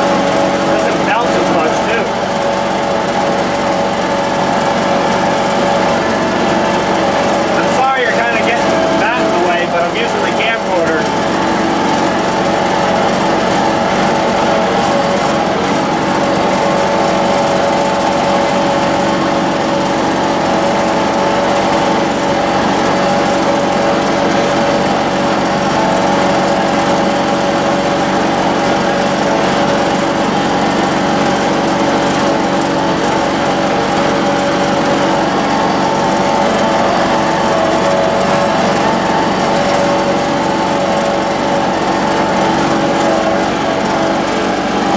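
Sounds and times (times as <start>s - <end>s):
lawn tractor engine running: 0.0s - 44.9s.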